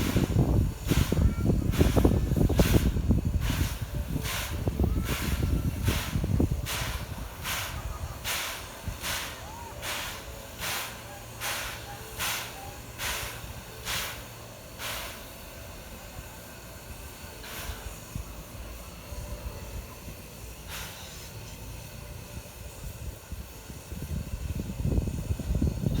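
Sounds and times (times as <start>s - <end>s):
steam locomotive chuffing: 0.0s - 26.0s
steam puffs: 0.0s - 26.0s.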